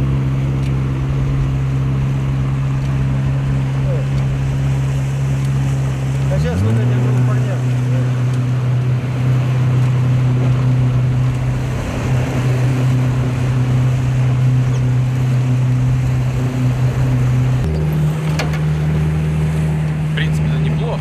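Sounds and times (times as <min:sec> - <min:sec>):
engine running with low drone: 0:00.0 - 0:21.0
rushing wind or water: 0:00.0 - 0:21.0.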